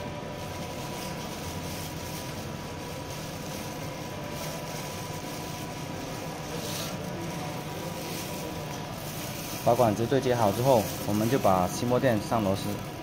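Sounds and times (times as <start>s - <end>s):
machine hum with high whine: 0.0s - 13.0s.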